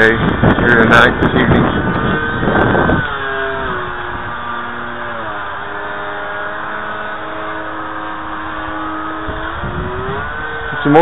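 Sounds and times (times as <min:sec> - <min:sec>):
model plane motor whining: 0:00.0 - 0:11.0.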